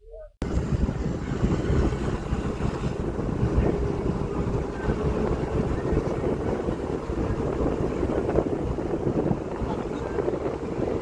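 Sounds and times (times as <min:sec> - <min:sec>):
moving vehicle rumble: 0:00.0 - 0:11.0
wind buffeting microphone: 0:00.4 - 0:11.0.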